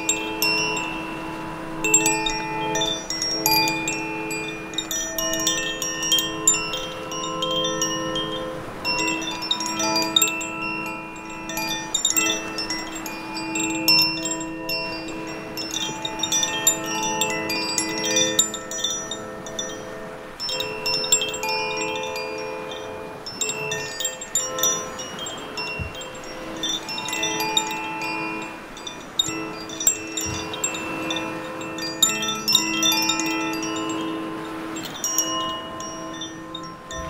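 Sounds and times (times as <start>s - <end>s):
sea waves on rocks: 0.0s - 37.0s
wind chime tinkling: 0.0s - 37.0s.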